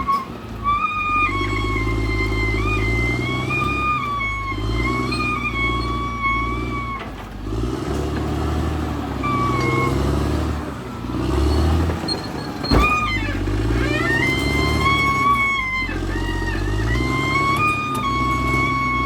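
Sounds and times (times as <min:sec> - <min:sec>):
high squeal: 0:00.0 - 0:07.2, 0:09.2 - 0:19.0
bulldozer diesel engine: 0:00.0 - 0:19.0.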